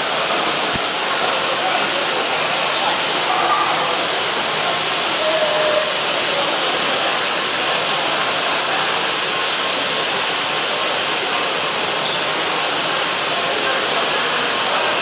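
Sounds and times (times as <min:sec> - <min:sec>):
faint high whine: 0:00.0 - 0:15.0
loud rushing air noise: 0:00.0 - 0:15.0.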